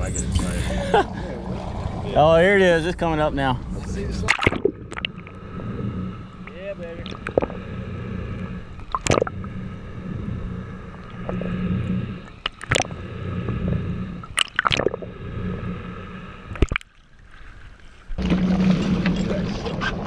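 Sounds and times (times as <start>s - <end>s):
water splashes: 0.0s - 10.0s, 10.8s - 15.6s, 16.4s - 20.0s
rushing wind: 0.0s - 16.7s
low hum: 0.0s - 20.0s
underwater gurgling: 0.0s - 20.0s.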